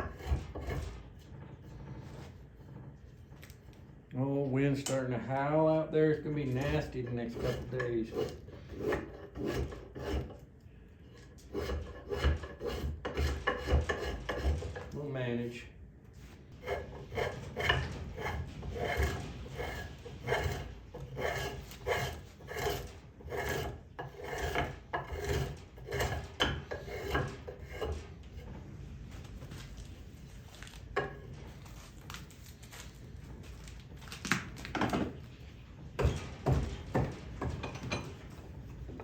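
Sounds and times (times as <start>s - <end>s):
tool scraping wooden handle: 0.0s - 4.0s, 4.6s - 15.6s, 16.2s - 31.9s, 35.9s - 39.0s.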